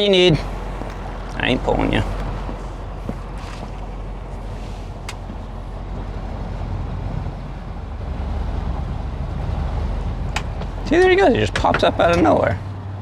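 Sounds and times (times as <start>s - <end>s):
outboard engine running: 0.0s - 13.0s.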